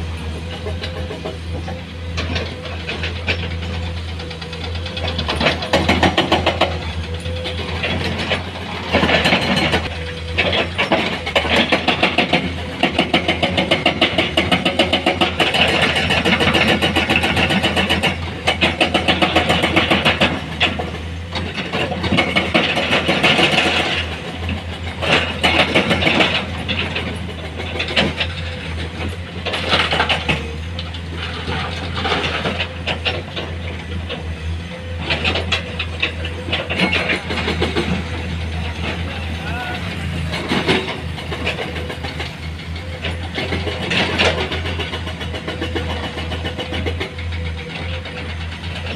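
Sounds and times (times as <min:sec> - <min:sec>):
heavy diesel engine knocking: 0:00.0 - 0:48.9.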